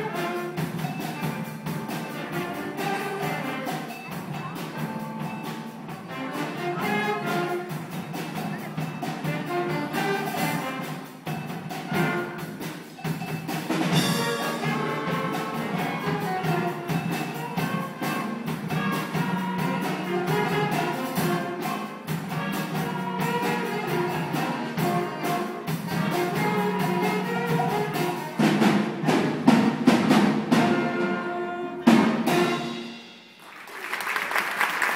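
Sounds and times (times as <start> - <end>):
saxophones and horns: 0.0 - 33.2
loud accented band hits: 0.0 - 33.5
steady drum beat: 0.0 - 33.6
school band playing: 0.0 - 34.9.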